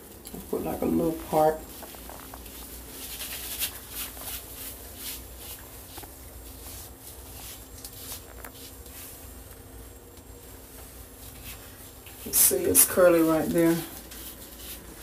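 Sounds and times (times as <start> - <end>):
faint steady hum: 0.0 - 15.0
gloved hand rustling through hair: 0.8 - 15.0.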